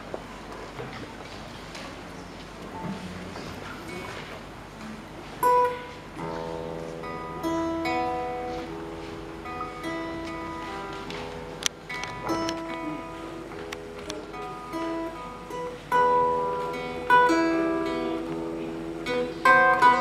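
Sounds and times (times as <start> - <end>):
acoustic guitars playing: 2.0 - 20.0.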